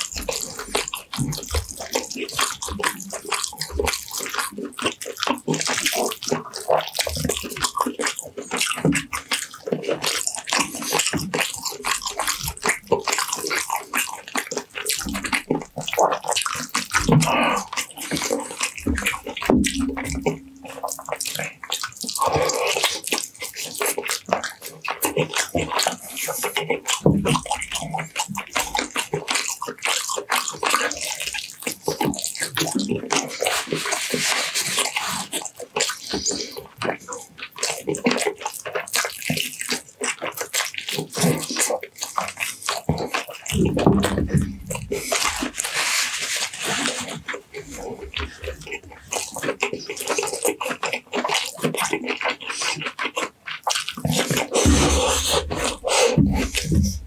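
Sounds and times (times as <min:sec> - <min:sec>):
wet chewing and lip-smacking: 0:00.0 - 0:57.0.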